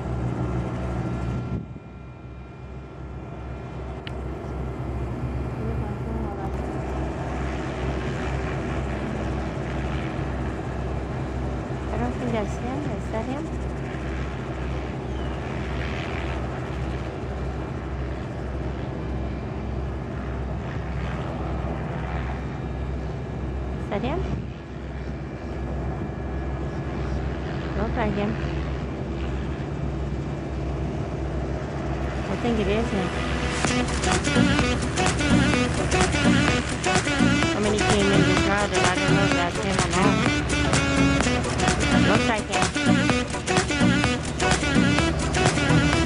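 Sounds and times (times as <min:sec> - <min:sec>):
propeller airplane engine droning: 0:00.0 - 0:46.0.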